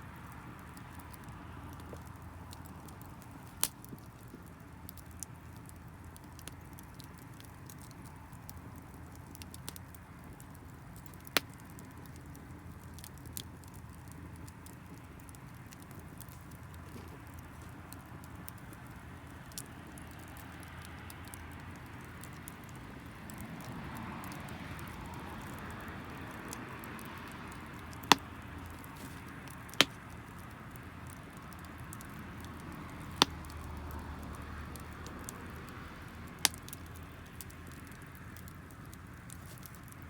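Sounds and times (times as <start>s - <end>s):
campfire hissing and crackling: 0.0s - 40.0s
fire sharp pops: 0.1s - 40.0s.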